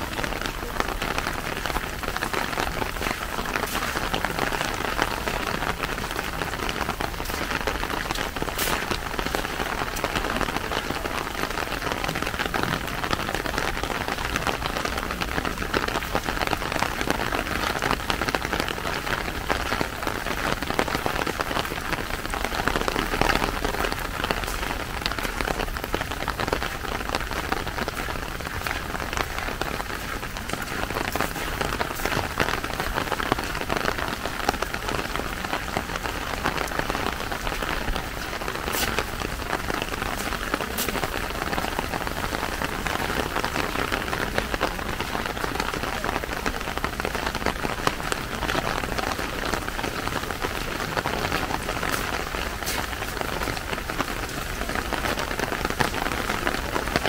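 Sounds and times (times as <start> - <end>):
raindrops ticking: 0.0 - 57.0
steady rain pattering: 0.0 - 57.0.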